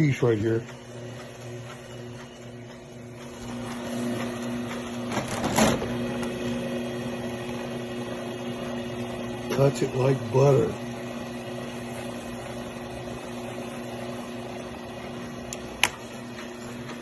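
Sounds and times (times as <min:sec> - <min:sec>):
wire stripper motor humming: 0:00.0 - 0:17.0.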